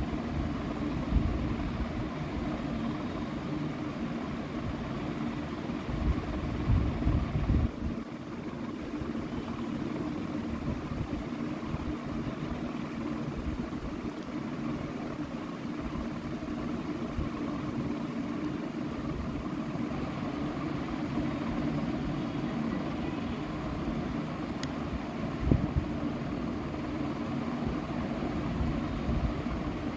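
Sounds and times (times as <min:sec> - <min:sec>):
low mechanical drone: 0:00.0 - 0:29.9.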